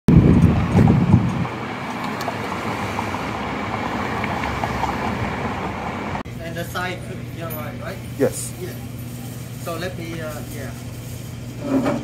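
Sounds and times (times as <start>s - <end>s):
vehicle low rumble: 0.1s - 11.6s.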